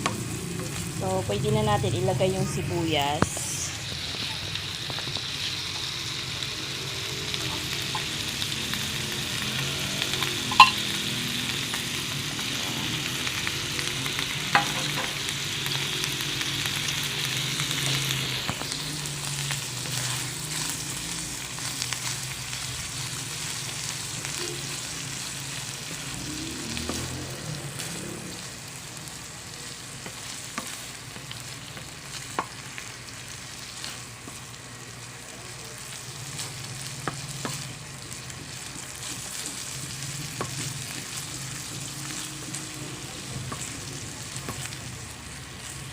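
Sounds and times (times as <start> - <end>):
meat and onions sizzling: 0.0 - 45.9.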